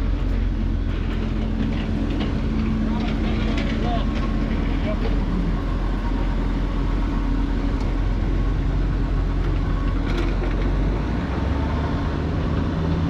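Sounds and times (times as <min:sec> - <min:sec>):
fire truck engine idling: 0:00.0 - 0:11.0.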